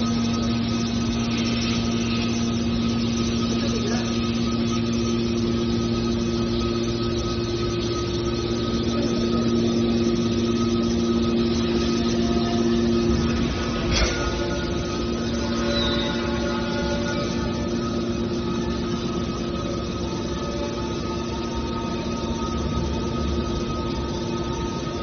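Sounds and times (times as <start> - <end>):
baler power unit humming: 0.0 - 25.0.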